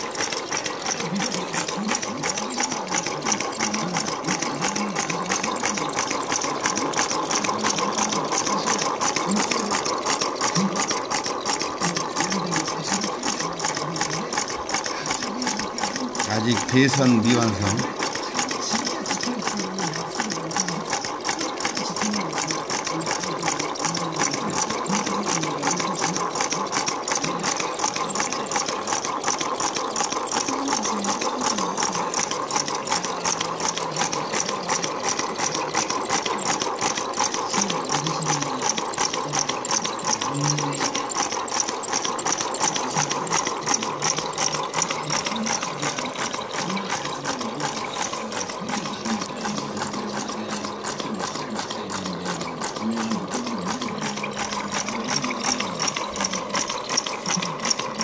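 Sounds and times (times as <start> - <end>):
solenoid engine clattering: 0.0 - 58.0.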